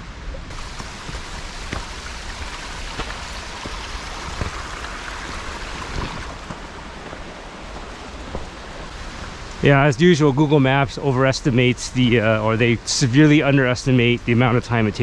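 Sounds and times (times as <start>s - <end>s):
mountain stream rushing: 0.1s - 15.0s.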